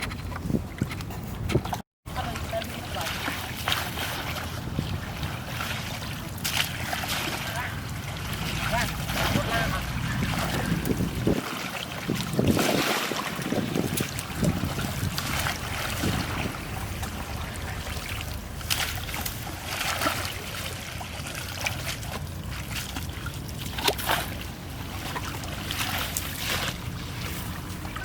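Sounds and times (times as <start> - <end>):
steady low rumble: 0.0 - 12.5, 13.3 - 28.0
water trickling and splashing: 0.0 - 28.0.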